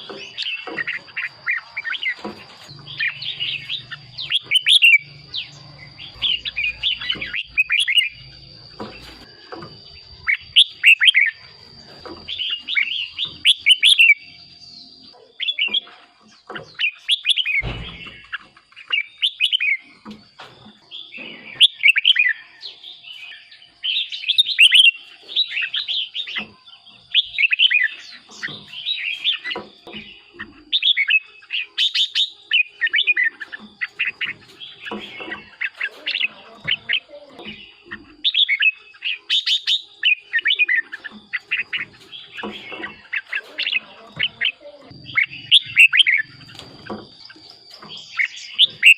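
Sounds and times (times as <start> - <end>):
bird singing warbled phrases: 0.0 - 48.9.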